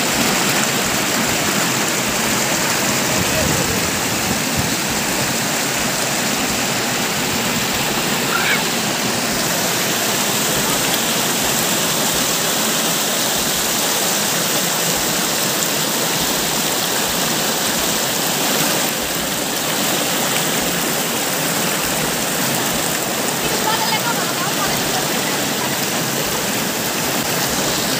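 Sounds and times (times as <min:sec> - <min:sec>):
water rushing over rocks: 0:00.0 - 0:27.9.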